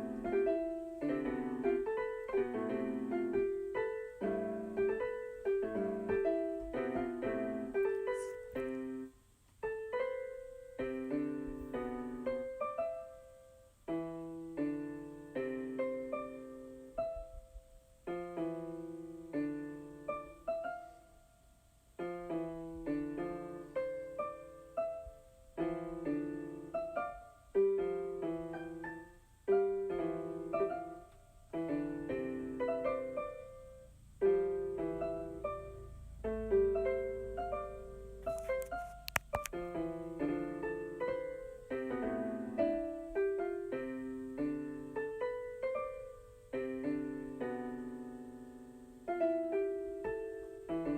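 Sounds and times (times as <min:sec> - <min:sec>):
electronic keyboard piano melody: 0:00.0 - 0:50.9.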